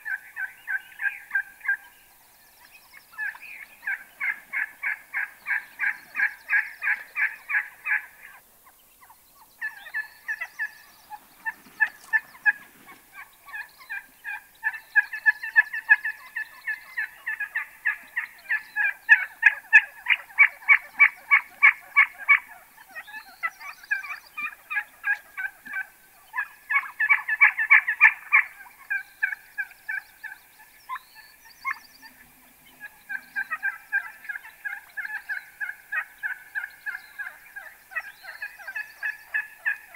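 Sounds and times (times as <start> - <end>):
wild turkeys calling: 0.0 - 39.9.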